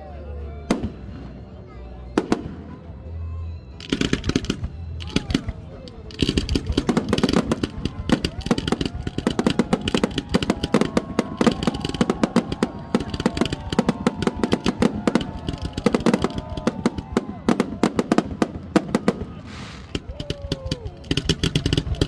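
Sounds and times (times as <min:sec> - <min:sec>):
crowd voices: 0:00.0 - 0:22.0
fireworks bursting: 0:03.8 - 0:22.0.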